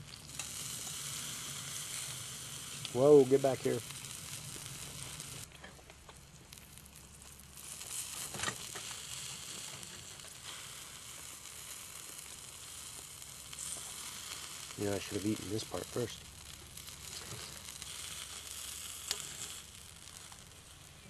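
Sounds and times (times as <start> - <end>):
steak sizzling on a grill: 0.0 - 21.0.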